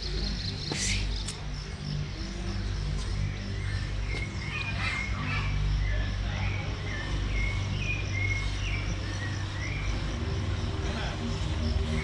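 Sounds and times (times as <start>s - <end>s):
birds chirping: 0.0s - 12.0s
low steady drone: 0.0s - 12.0s.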